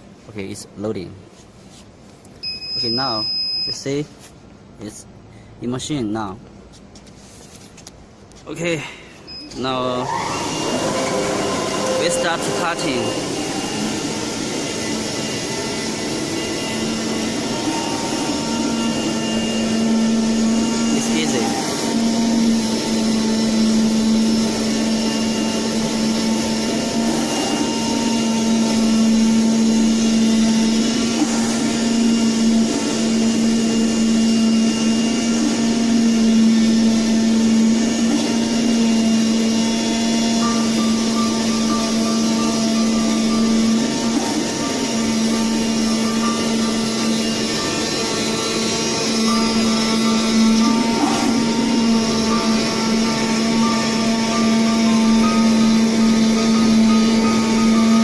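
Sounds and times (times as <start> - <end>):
machine hum: 7.5 - 58.0
vacuum blower rushing: 9.5 - 58.0.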